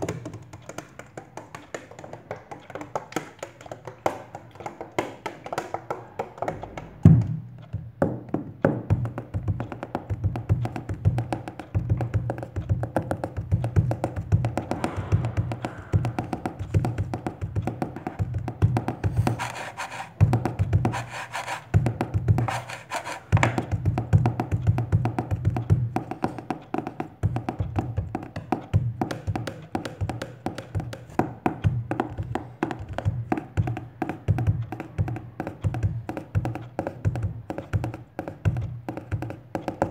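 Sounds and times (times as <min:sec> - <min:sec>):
hand drumming on objects: 0:00.0 - 0:39.9.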